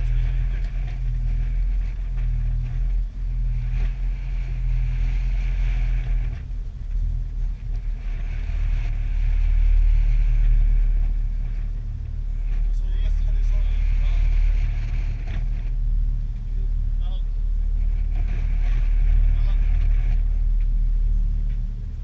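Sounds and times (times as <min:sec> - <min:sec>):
boat engine low rumble: 0:00.0 - 0:22.0.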